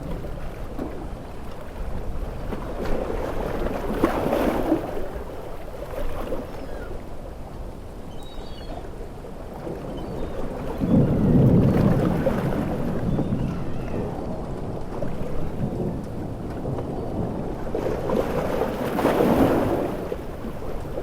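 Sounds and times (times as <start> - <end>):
sea waves breaking: 0.0 - 21.0.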